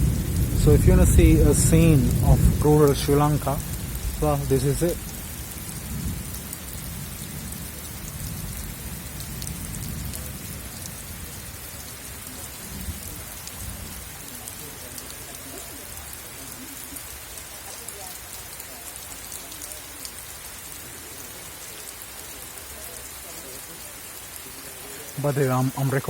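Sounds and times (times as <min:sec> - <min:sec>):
heavy rain falling: 0:00.0 - 0:26.0
raindrops crackling on surfaces: 0:00.0 - 0:26.0.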